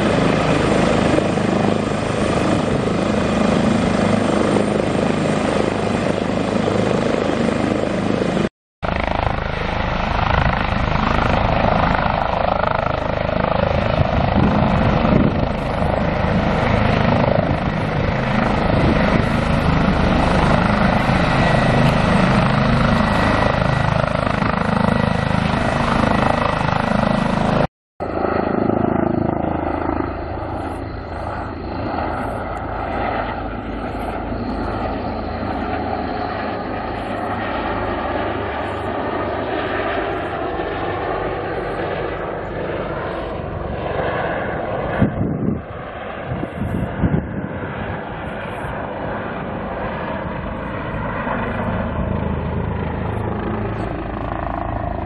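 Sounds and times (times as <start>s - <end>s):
dull aircraft noise: 0.0s - 55.0s
helicopter rotor and turbine noise: 0.0s - 55.0s.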